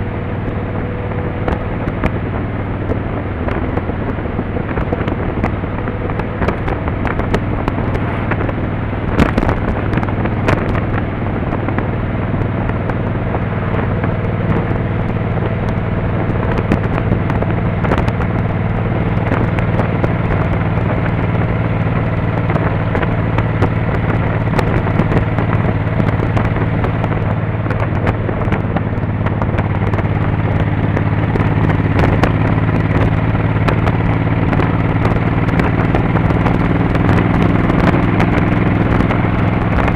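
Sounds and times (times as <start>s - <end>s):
motorcycle engine running: 0.0s - 39.9s
sharp clicks and crackles: 0.4s - 39.9s.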